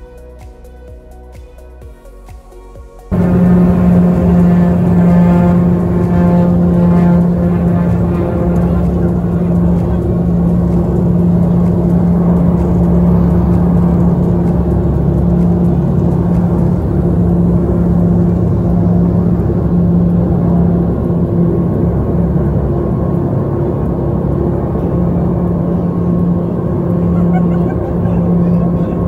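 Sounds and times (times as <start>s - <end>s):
low engine rumble: 0.0s - 29.0s
propeller drone: 3.0s - 29.0s.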